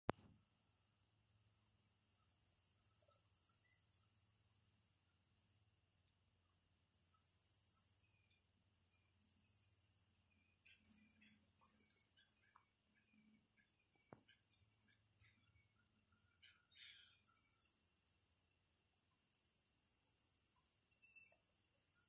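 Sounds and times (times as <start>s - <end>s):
bird chirps: 1.3s - 22.0s
crickets trilling: 1.4s - 22.0s.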